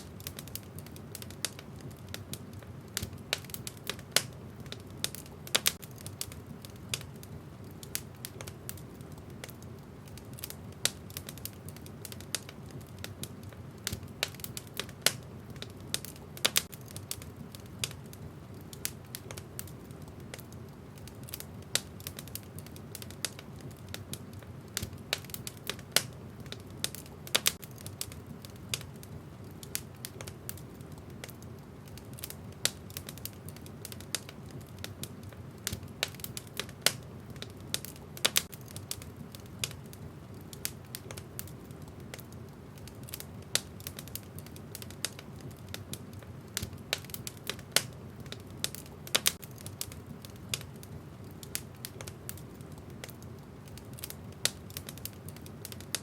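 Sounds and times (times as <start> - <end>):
burning logs crackling and popping: 0.0 - 56.0
low rumble of flames: 0.0 - 56.0.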